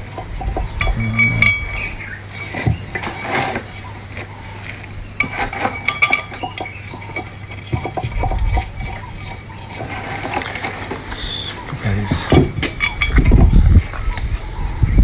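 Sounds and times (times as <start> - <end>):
metal parts clinking and knocking: 0.1 - 1.8, 2.4 - 11.0, 12.0 - 14.1.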